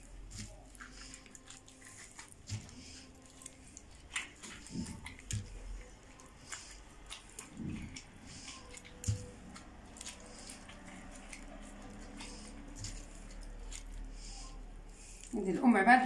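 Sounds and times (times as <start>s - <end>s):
wet squishing and crackling: 0.0s - 16.0s.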